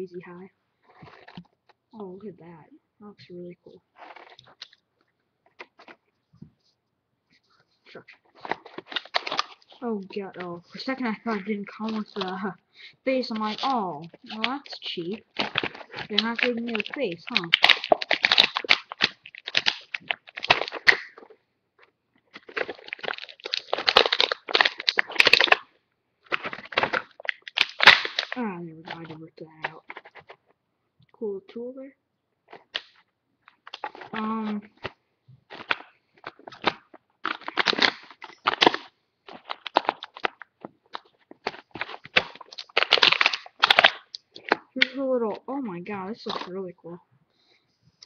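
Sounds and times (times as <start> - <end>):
plastic packaging crinkling: 0.8 - 1.8, 4.0 - 6.7, 7.6 - 30.6, 32.5 - 46.6.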